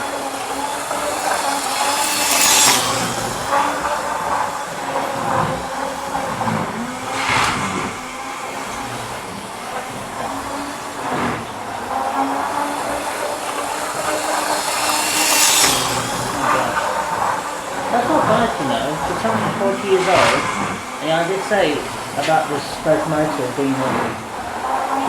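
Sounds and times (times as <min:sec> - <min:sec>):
model train motor whir: 0:00.0 - 0:25.0
model train wheel rattle: 0:00.0 - 0:25.0.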